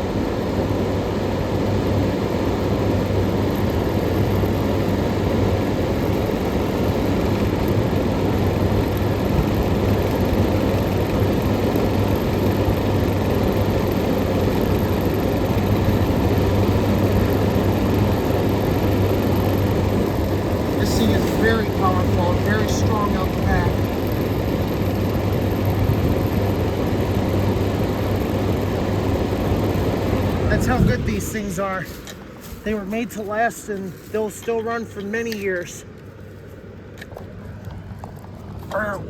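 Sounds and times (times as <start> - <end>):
air conditioner fan running: 0.0 - 39.0.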